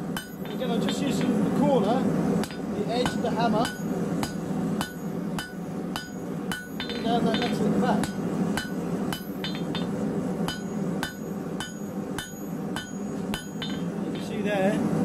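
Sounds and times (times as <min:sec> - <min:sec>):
hammer striking metal on anvil: 0:00.1 - 0:01.4, 0:02.4 - 0:14.4.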